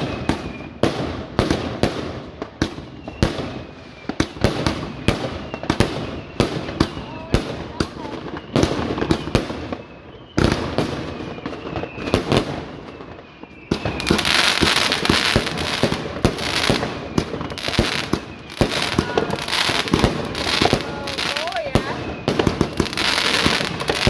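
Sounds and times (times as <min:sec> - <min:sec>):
firework cake shots and bangs: 0:00.0 - 0:24.0
firework hiss and crackle: 0:00.0 - 0:24.0.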